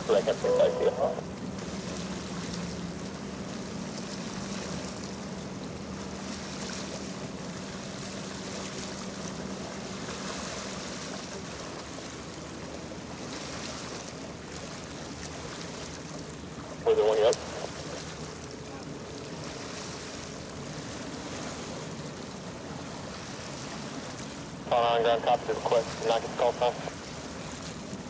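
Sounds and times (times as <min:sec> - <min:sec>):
low hum of ship machinery: 0:00.0 - 0:28.0
water noise: 0:00.0 - 0:28.0
wind: 0:00.0 - 0:28.0.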